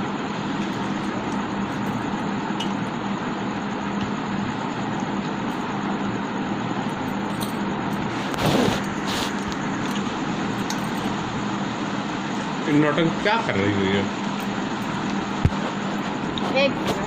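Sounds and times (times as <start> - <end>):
steady fan or motor hum and hiss: 0.0 - 17.0.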